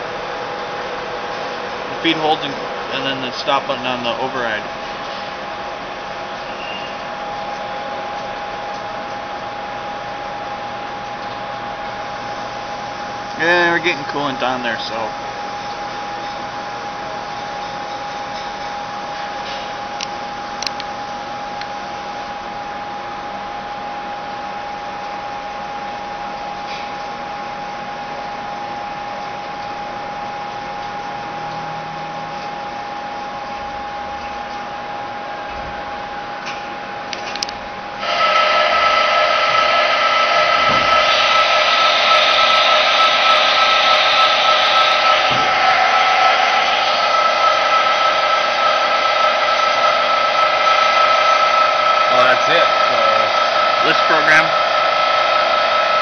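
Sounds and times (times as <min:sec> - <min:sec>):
milling machine hiss and whine: 0:00.0 - 0:56.0.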